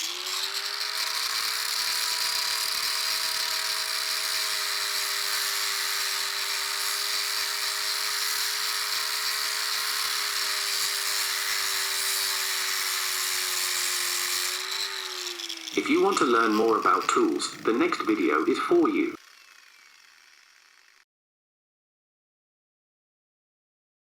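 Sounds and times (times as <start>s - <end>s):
angle grinder grinding: 0.0s - 21.0s.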